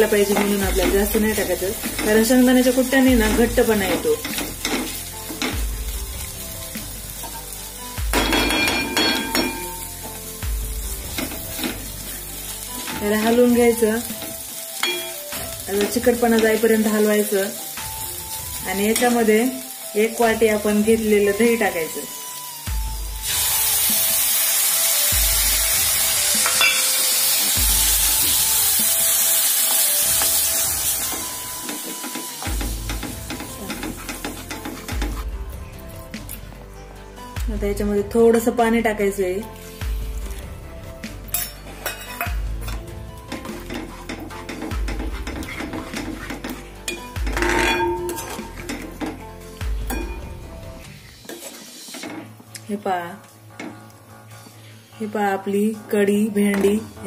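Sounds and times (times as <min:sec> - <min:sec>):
okra sizzling in oil: 0:00.0 - 0:36.6, 0:39.2 - 0:55.7.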